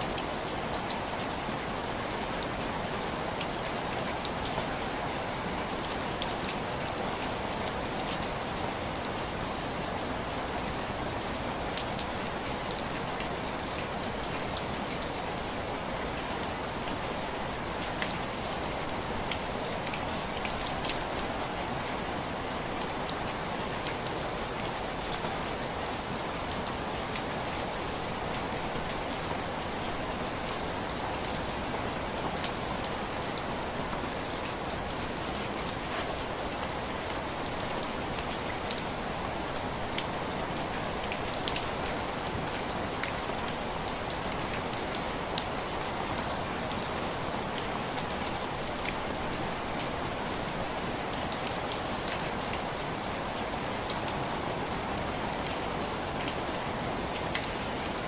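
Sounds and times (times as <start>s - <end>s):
rain on window glass: 0.0s - 58.0s.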